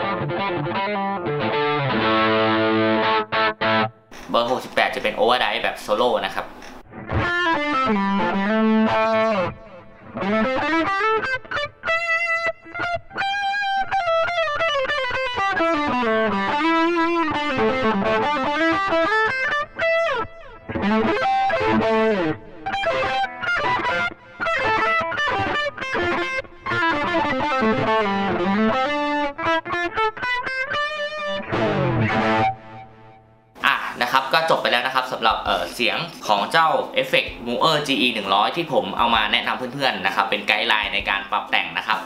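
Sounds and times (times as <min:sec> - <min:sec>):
high-gain electric guitar solo: 0:00.0 - 0:04.6, 0:06.5 - 0:37.4.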